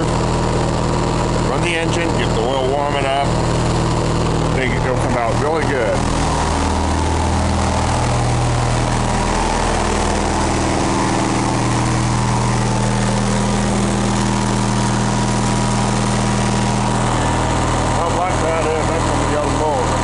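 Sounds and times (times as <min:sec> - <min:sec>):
garden tractor engine running: 0:00.0 - 0:20.0.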